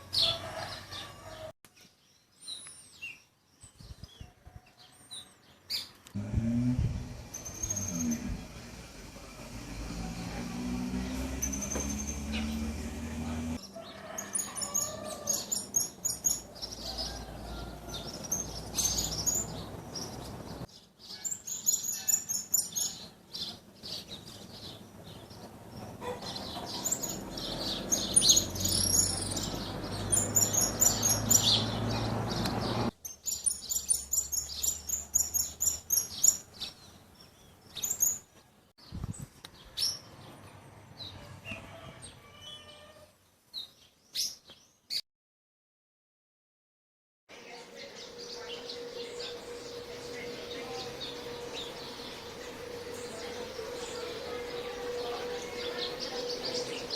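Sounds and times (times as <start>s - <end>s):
songbirds chirping and singing: 0.0s - 45.0s, 47.3s - 56.9s.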